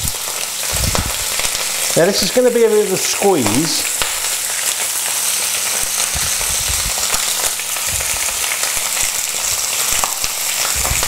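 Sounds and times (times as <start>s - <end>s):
oil crackling and spitting: 0.0s - 2.4s, 3.0s - 11.0s
chicken sizzling in frying pan: 0.0s - 11.0s.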